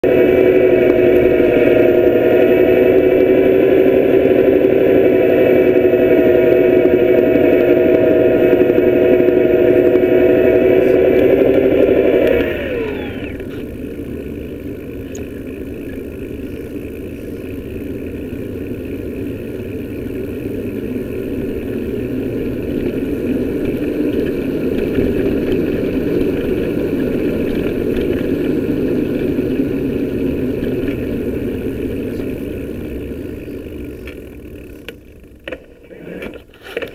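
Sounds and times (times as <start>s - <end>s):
electric bike motor whining: 0.0s - 36.9s.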